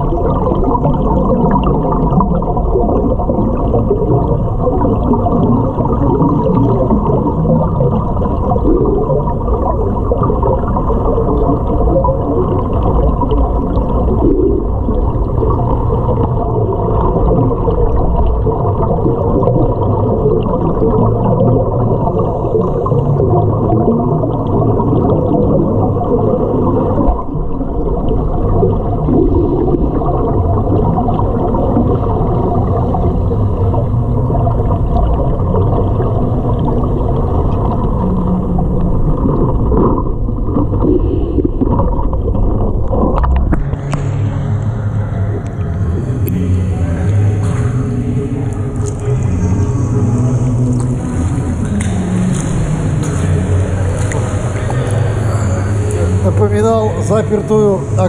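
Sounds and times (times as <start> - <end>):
muffled underwater rumble: 0.0 - 58.0.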